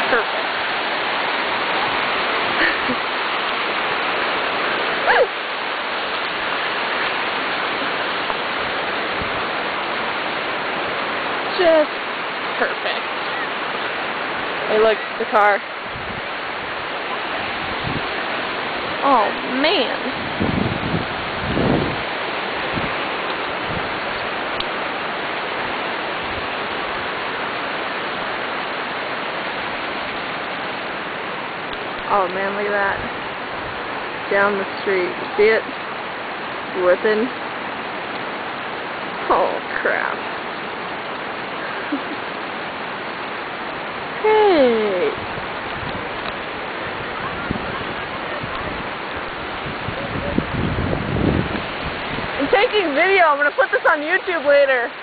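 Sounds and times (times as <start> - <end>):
floodwater rushing over culvert: 0.0 - 55.0.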